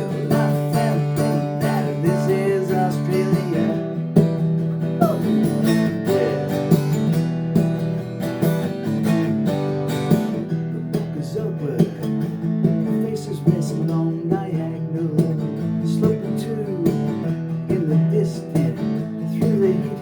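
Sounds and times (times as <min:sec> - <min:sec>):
acoustic guitar strumming: 0:00.0 - 0:20.0
guitar melody lines: 0:00.0 - 0:20.0.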